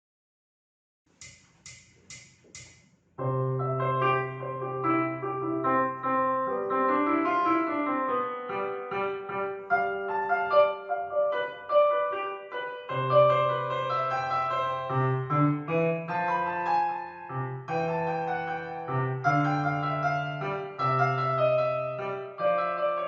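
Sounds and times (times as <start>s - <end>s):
piano music: 3.2s - 23.0s.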